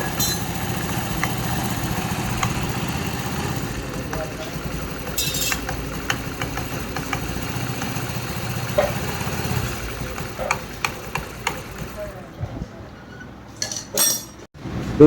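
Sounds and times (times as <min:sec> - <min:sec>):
scooter engine running: 0:00.0 - 0:12.4.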